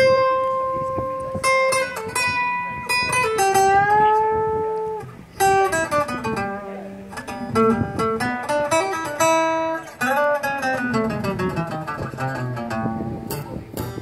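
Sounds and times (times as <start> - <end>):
acoustic guitar plucked notes: 0.0 - 14.0.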